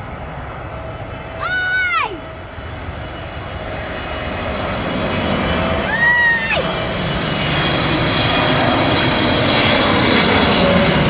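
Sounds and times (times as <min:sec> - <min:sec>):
airliner engine roar: 0:00.0 - 0:11.0.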